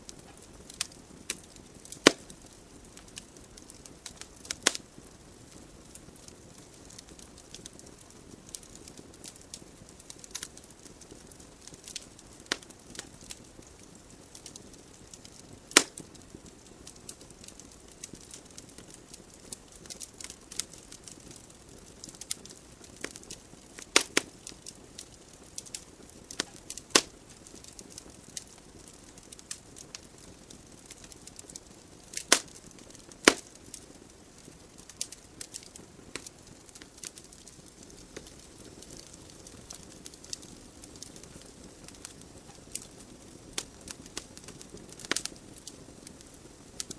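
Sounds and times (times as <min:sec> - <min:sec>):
burning logs crackling and popping: 0:00.0 - 0:46.9.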